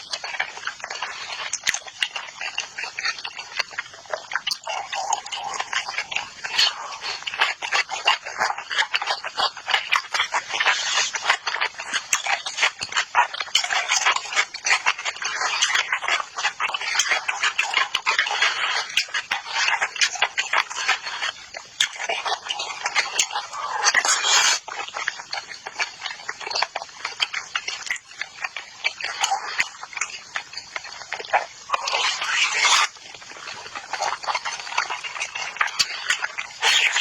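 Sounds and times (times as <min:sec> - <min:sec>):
close chewing mouth noises: 0:00.0 - 0:37.0.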